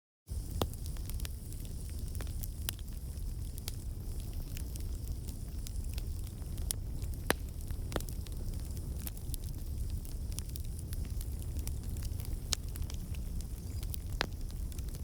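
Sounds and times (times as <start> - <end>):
bonfire crackling: 0.3 - 15.0
fire low rumble: 0.3 - 15.0.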